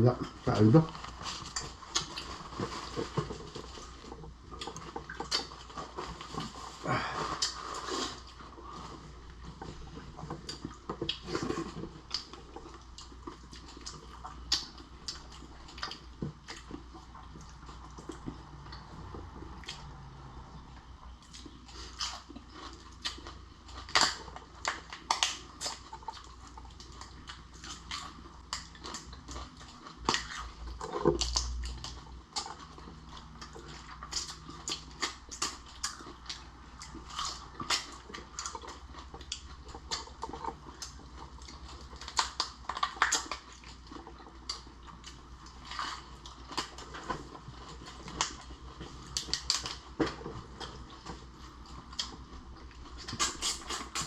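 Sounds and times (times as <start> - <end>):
crunching and chewing shellfish: 0.0 - 54.0.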